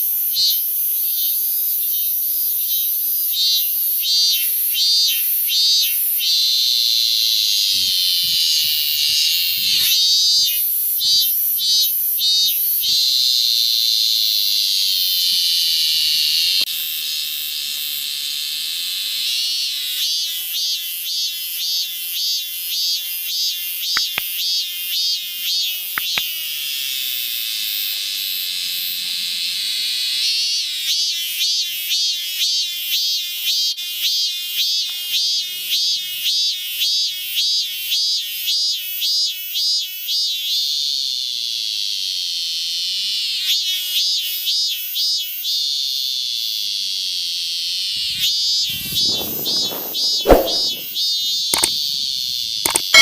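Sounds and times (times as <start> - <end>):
cicada buzzing: 0.0 - 53.0.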